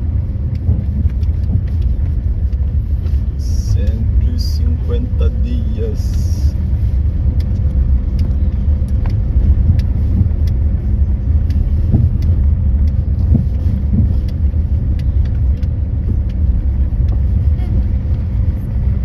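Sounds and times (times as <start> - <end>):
car engine and tyres rumbling: 0.0 - 19.0
light ticks and rattles: 0.0 - 19.0.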